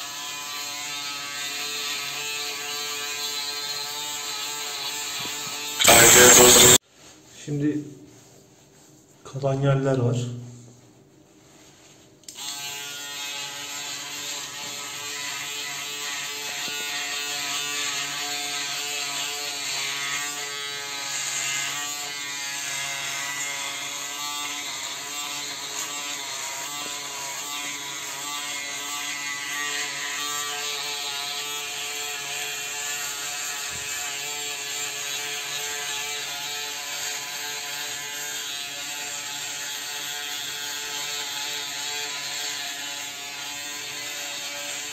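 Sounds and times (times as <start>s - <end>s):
electric shaver buzzing: 0.0s - 6.8s, 12.2s - 44.9s.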